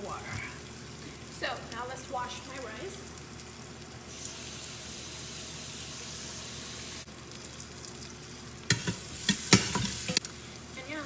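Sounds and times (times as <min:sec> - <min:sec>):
kitchen tap running: 0:00.0 - 0:11.0.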